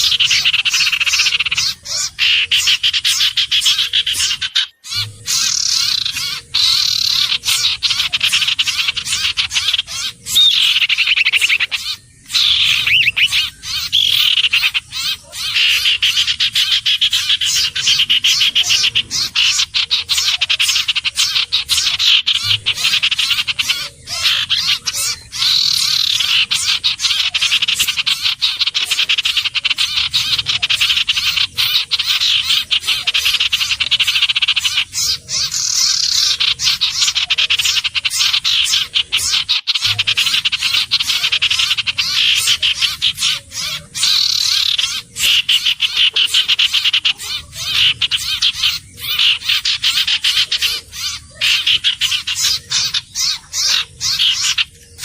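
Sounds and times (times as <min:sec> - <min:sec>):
bird high-pitched trills: 0:00.0 - 0:55.0.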